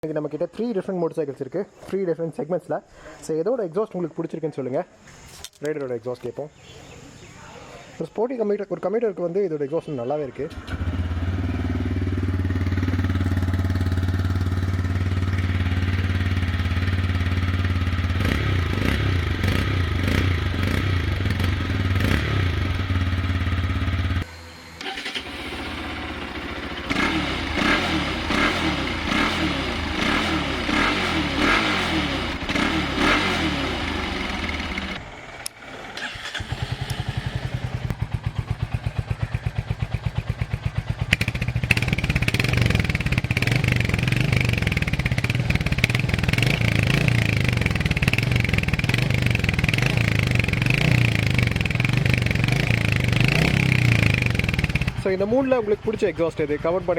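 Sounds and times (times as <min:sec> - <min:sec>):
motorcycle revving: 0:10.4 - 0:56.9
motorcycle idling: 0:10.5 - 0:56.9.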